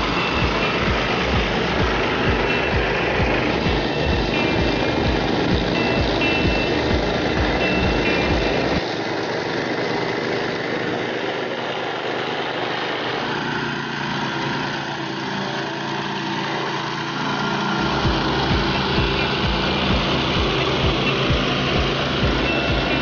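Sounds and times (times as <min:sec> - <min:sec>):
mower petrol engine running: 0:00.0 - 0:23.0.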